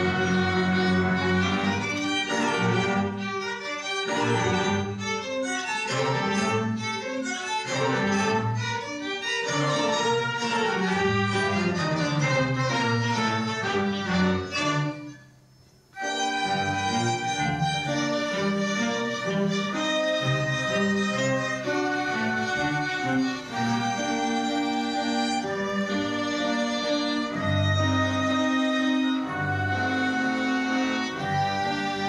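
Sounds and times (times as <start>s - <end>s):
orchestra bowed strings: 0.0s - 32.0s.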